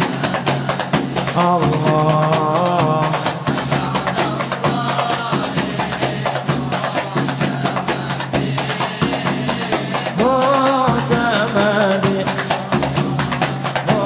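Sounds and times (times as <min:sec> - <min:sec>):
frame drums played by hand: 0:00.0 - 0:14.0
singing: 0:00.0 - 0:14.0.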